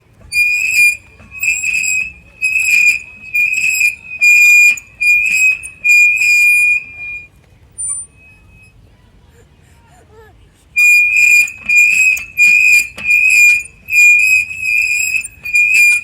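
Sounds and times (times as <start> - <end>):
high squeak: 0.2 - 8.8, 10.8 - 16.0.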